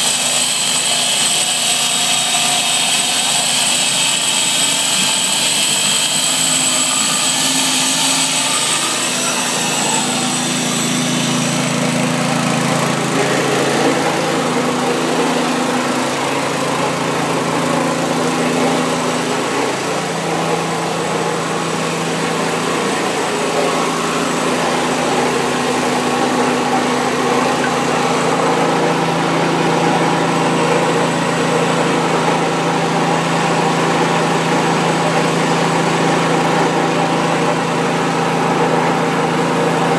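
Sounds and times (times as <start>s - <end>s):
grinder whining on marble: 0.0s - 39.9s.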